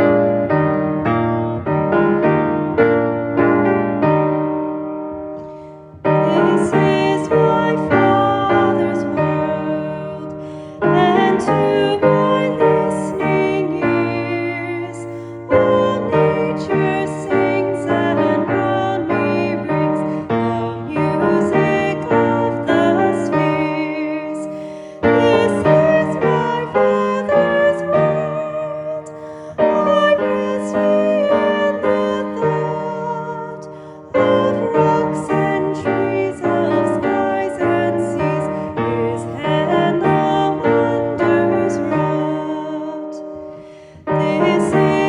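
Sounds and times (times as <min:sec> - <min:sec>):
piano chords: 0:00.0 - 0:45.0.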